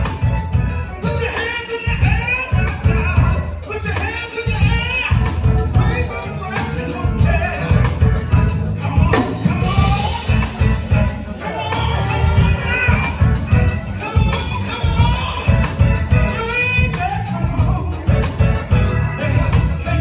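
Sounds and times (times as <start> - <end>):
live band with singer: 0.0 - 20.0.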